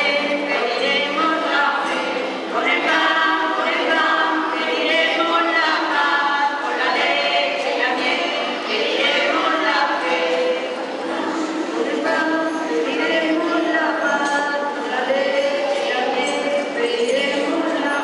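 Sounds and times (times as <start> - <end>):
women's choir singing a carol: 0.0 - 18.0.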